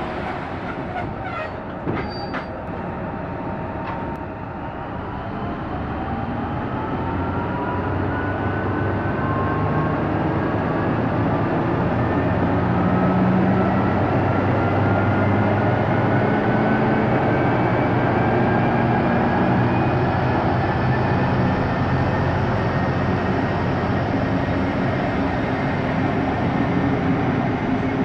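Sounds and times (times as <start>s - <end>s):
diesel train engine drone: 0.0s - 28.0s
rising engine whine: 2.7s - 28.0s.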